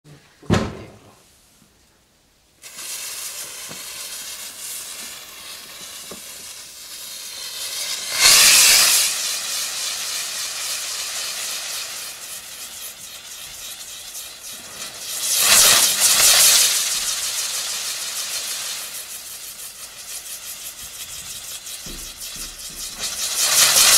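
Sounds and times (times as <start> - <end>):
firework hissing: 2.6 - 23.9.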